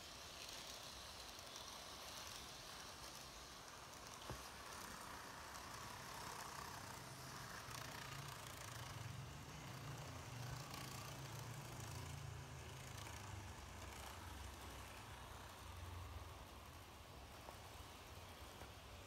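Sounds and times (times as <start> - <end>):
model train motors humming: 0.0 - 19.0.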